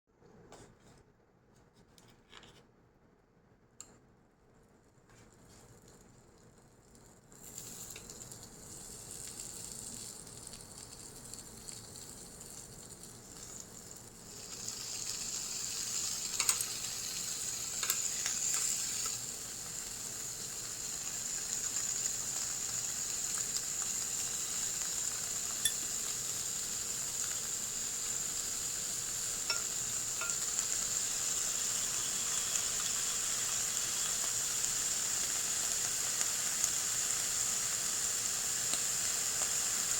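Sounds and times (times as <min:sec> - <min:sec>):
beef sizzling on hot plate: 0:05.9 - 0:39.9.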